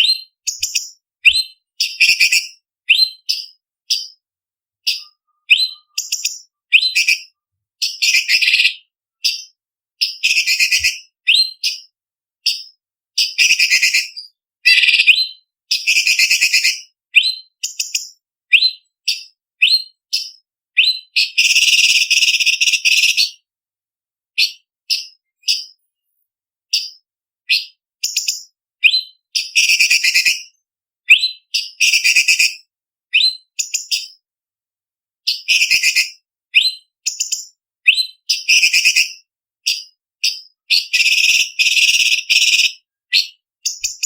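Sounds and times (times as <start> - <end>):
bird singing and chattering: 0.0 - 4.2, 4.8 - 23.4, 24.4 - 25.8, 26.7 - 30.5, 33.2 - 34.2, 35.3 - 44.0.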